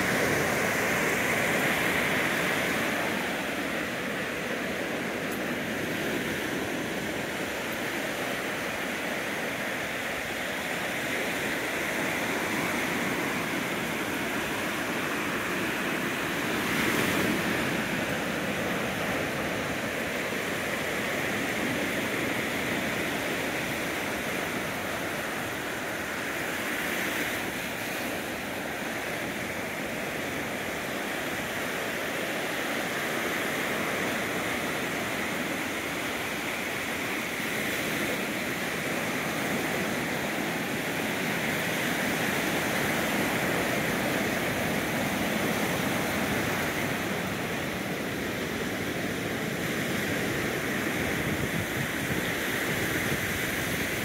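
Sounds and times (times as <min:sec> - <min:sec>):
ocean surf washing on beach: 0:00.0 - 0:54.0.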